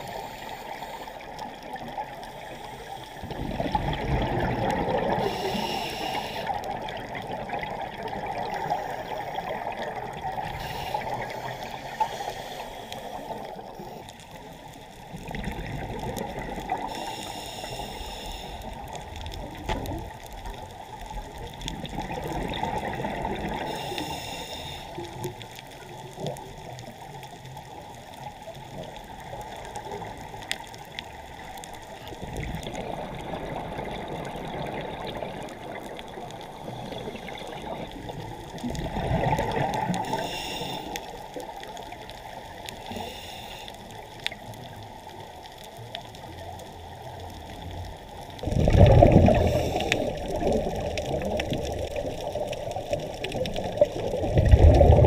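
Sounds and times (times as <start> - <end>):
diver breathing hiss and bubbles: 0.0 - 55.0
underwater rushing water: 0.0 - 55.0.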